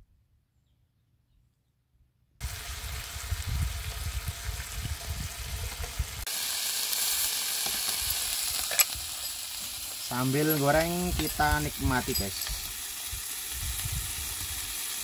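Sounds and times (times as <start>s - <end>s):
meat sizzling in a grill pan: 2.4s - 15.0s.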